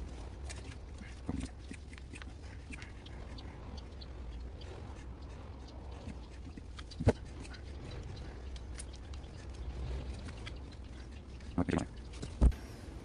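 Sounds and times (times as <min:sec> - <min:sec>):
wire scratching and rustling: 0:00.0 - 0:12.6.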